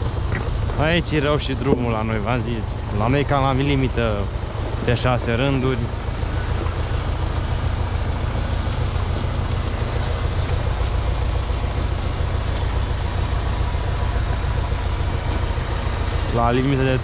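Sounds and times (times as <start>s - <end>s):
tractor diesel engine rumbling: 0.0s - 17.0s.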